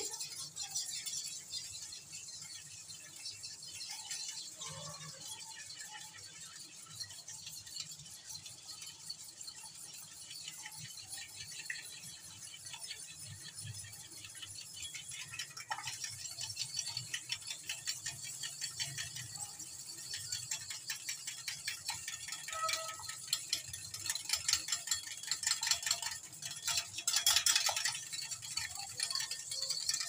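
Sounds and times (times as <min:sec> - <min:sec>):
whisk clinking in glass bowl: 0:00.0 - 0:30.0.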